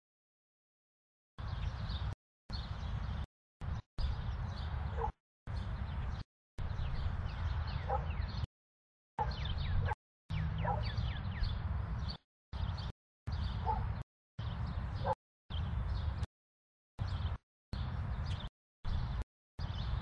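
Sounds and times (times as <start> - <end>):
birds chirping: 1.4 - 8.5, 9.2 - 16.3, 17.0 - 20.0.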